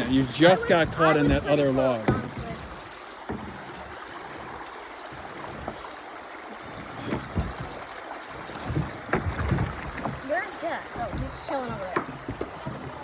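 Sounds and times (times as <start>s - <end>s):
creek water running over dam: 0.0s - 13.0s
kayaks bumping with knocks: 0.0s - 13.0s.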